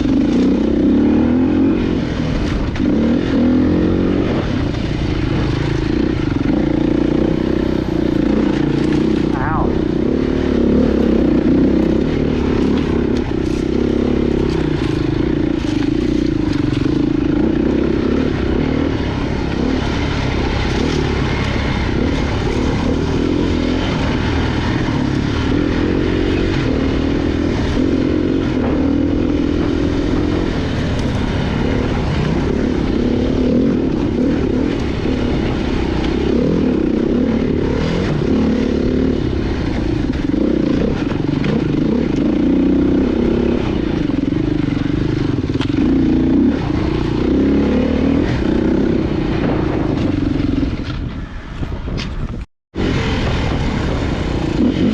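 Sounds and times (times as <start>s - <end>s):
dirt bike engine revving: 0.0s - 51.4s, 52.8s - 54.9s.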